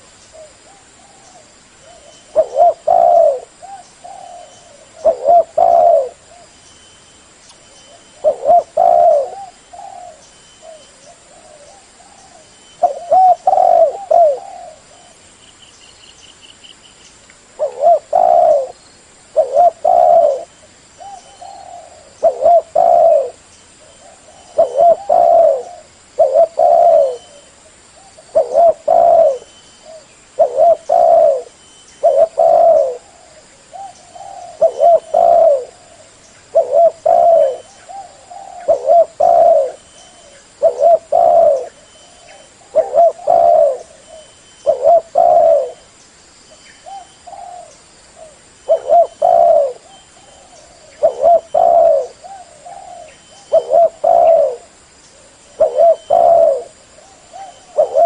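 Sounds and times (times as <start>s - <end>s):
dove cooing: 0.0s - 6.5s, 7.9s - 15.2s, 17.6s - 45.9s, 46.8s - 58.0s.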